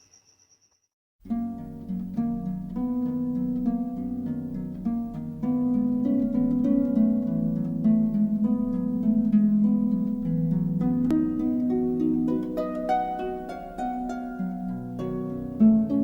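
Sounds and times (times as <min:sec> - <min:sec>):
plucked string music: 0:01.3 - 0:16.0.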